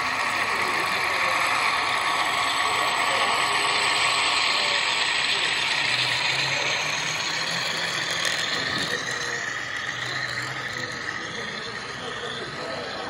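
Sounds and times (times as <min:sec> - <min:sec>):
model train wheels rolling hiss: 0:00.0 - 0:13.0.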